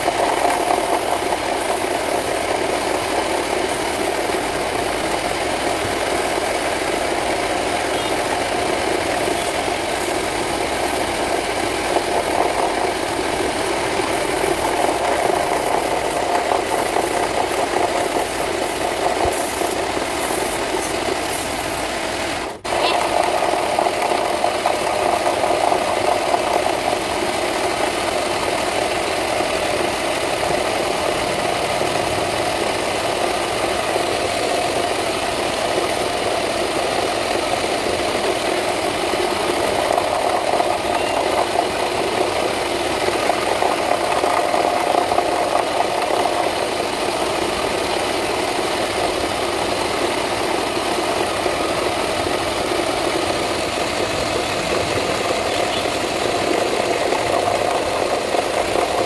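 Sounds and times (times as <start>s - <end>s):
lathe rattle: 0.0s - 59.0s
wood lathe humming: 0.0s - 59.0s.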